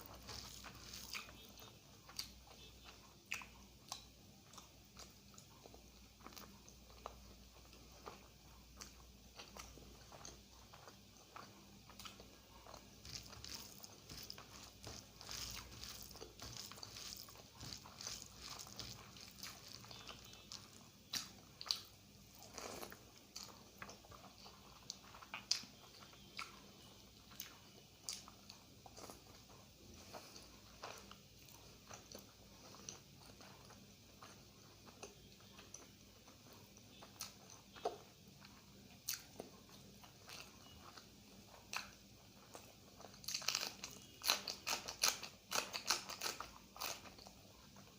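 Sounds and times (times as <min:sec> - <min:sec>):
close-miked chewing and mouth sounds: 0:00.0 - 0:47.9.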